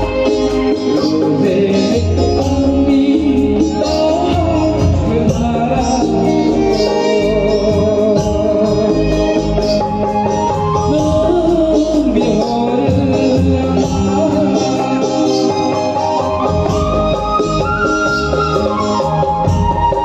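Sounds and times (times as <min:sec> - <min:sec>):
electric guitar: 0:00.0 - 0:20.0
hand drum: 0:00.0 - 0:20.0
keyboard: 0:00.0 - 0:20.0
man singing into a microphone: 0:00.0 - 0:20.0.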